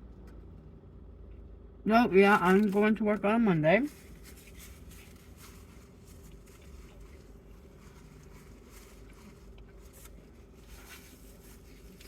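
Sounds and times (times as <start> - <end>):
car air conditioning hum: 0.0 - 12.0.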